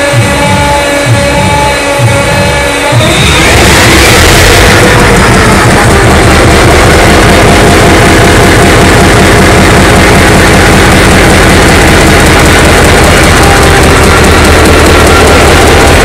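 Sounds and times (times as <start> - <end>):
diesel engine running: 0.0 - 16.0
valve train clatter: 3.0 - 16.0.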